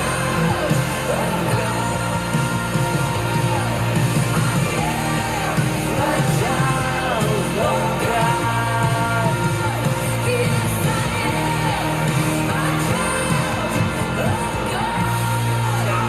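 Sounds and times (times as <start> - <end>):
band accompaniment: 0.0 - 16.0
person singing worship song: 0.0 - 16.0.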